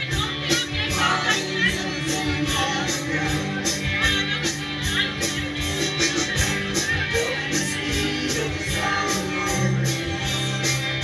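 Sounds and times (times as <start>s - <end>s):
women singing: 0.0s - 10.6s
bass guitar: 0.0s - 11.0s
drum kit beat: 0.0s - 11.0s
electric guitars: 0.0s - 11.0s
keyboard: 0.0s - 11.0s.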